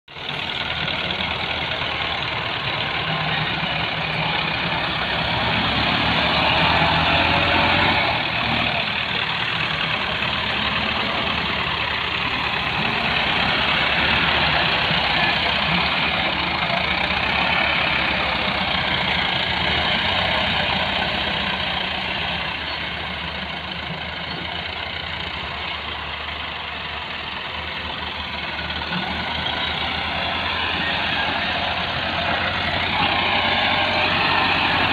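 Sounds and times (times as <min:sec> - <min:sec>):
diesel tractor engines under load: 0:00.1 - 0:34.9.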